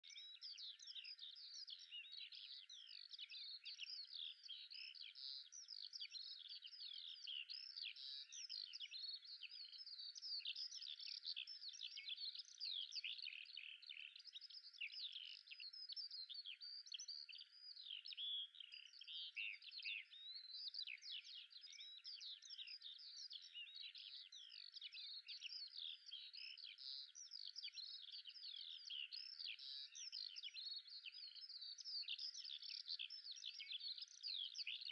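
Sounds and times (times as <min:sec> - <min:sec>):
small birds chirping and twittering: 0:00.0 - 0:34.9.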